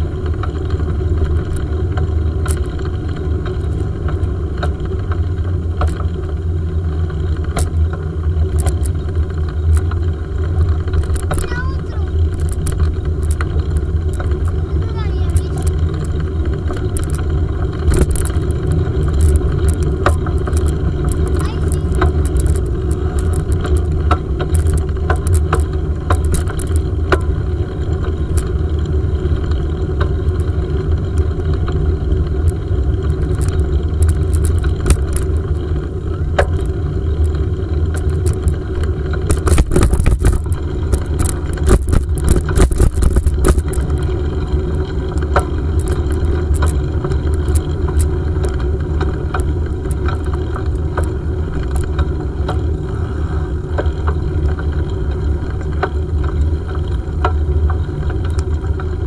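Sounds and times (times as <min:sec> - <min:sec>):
bicycle rolling on pavement: 0:00.0 - 0:59.0
bike clicking and rattling: 0:00.0 - 0:59.0.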